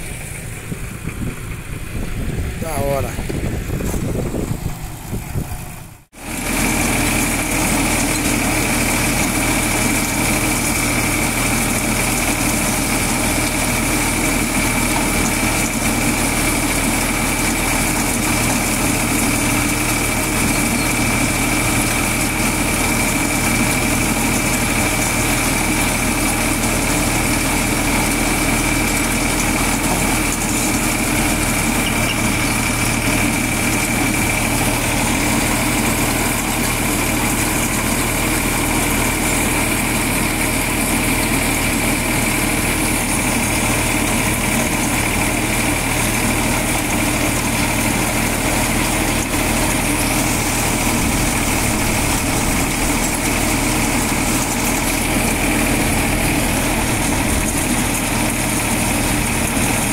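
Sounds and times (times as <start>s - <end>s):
corn thresher machine din: 0.0s - 59.9s
diesel engine running: 0.0s - 59.9s
high machine whine: 0.0s - 59.9s.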